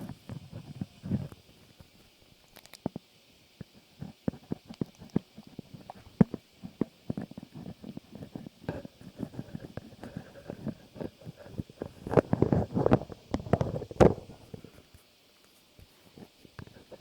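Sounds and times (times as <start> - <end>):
soft clicks crackles and squishes: 0.0 - 14.2.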